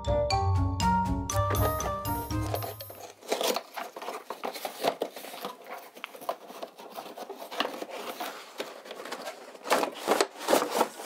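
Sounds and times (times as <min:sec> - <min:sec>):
taps and rustles: 0:01.5 - 0:11.0
cardboard scraping and sliding: 0:01.6 - 0:11.0.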